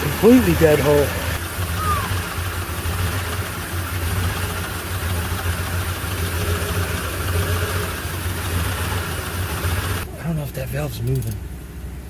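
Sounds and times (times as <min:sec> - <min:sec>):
misfiring engine idling: 0:00.0 - 0:12.0.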